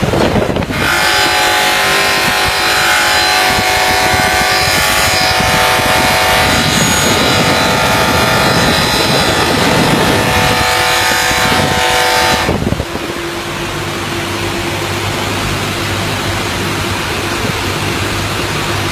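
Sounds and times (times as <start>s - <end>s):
buffing wheel whine: 0.0s - 18.9s
polishing machine motor hum: 0.6s - 18.9s.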